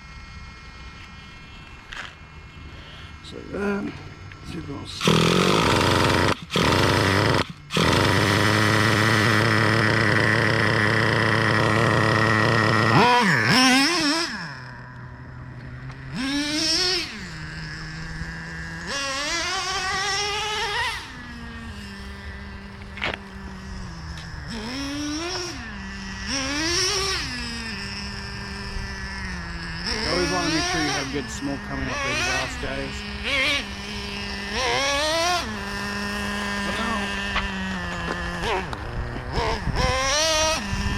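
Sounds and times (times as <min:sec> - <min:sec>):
nitro engine revving and idling: 0:00.0 - 0:40.9.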